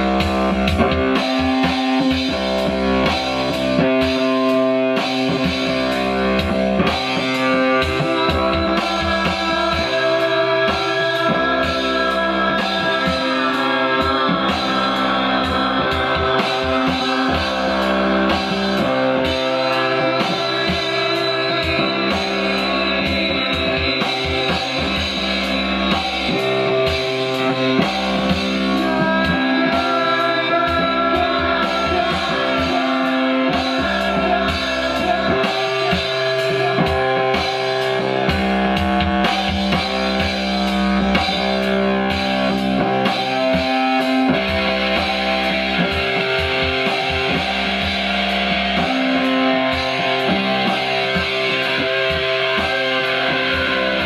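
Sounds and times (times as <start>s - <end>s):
experimental electronic music: 0.0s - 54.0s.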